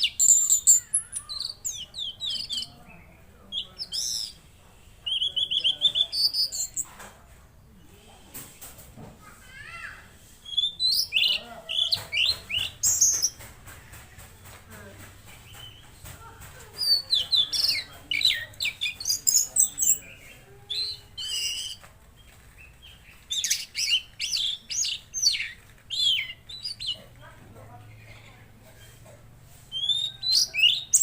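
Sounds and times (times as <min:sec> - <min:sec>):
songbird chirping and trilling: 0:00.0 - 0:31.0.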